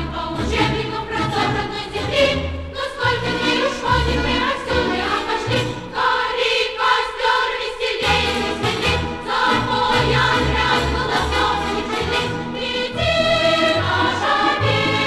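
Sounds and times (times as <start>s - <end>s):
choir singing with accompaniment: 0.0s - 15.0s.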